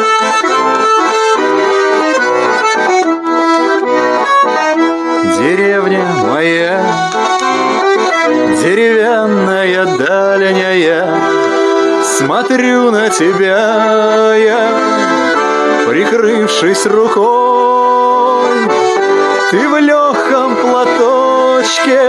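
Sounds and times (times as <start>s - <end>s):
accordion music: 0.0s - 22.0s.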